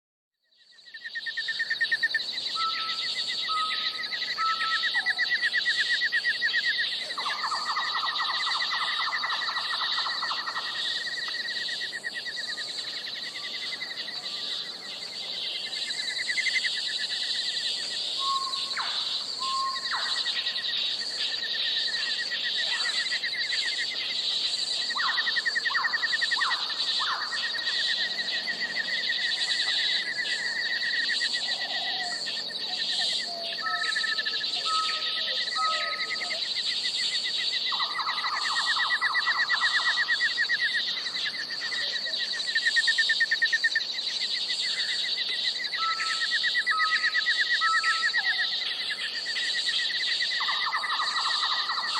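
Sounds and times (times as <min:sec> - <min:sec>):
insects trilling: 0:00.5 - 0:51.9.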